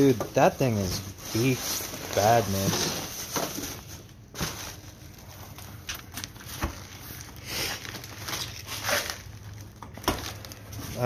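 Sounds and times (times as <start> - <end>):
cardboard and bubble-wrap rustling: 0.0 - 11.0.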